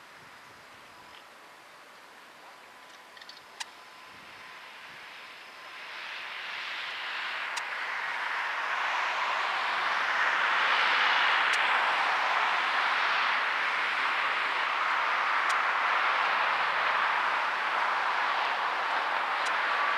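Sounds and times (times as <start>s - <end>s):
distant jet engines roaring: 1.5s - 19.9s.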